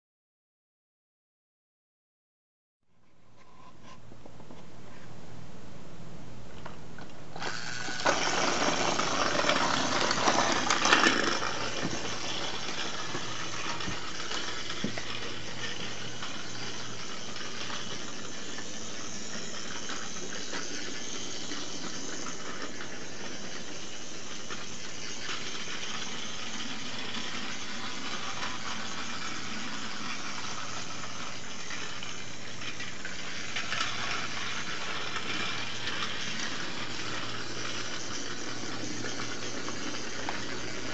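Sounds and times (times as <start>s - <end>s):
toy engine motor whir: 7.4s - 40.9s
wheels and gears rattling: 7.4s - 40.9s.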